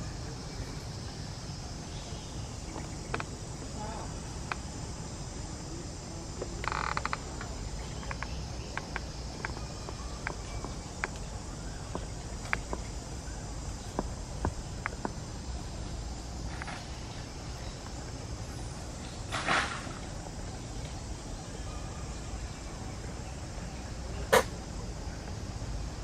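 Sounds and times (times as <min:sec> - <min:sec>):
insects chorus: 0:00.0 - 0:26.0
rapid chatter: 0:00.0 - 0:26.0.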